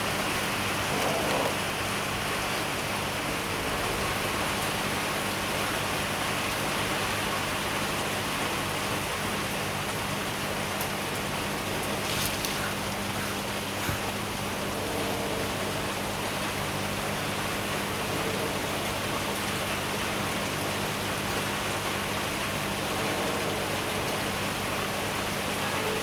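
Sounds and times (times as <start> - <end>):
rain-like hiss: 0.0 - 26.0.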